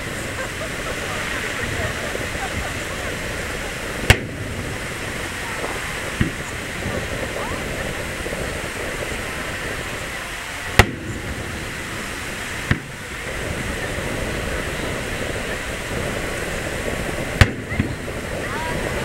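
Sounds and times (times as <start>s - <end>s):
fireworks shells bursting: 0.0s - 19.0s
surf noise: 0.0s - 19.0s.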